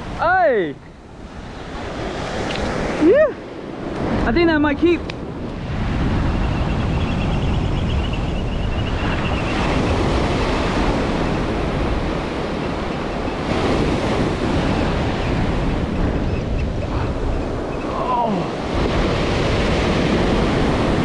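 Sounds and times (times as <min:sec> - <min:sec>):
surf breaking on shore: 0:00.0 - 0:21.0
wind buffeting microphone: 0:00.8 - 0:21.0.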